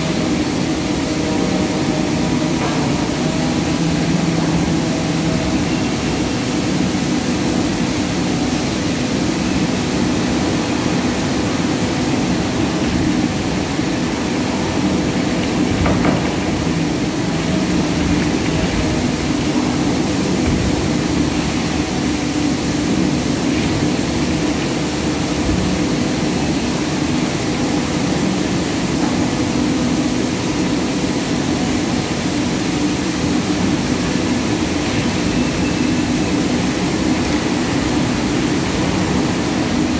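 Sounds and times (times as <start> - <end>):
industrial machinery drone: 0.0 - 39.9.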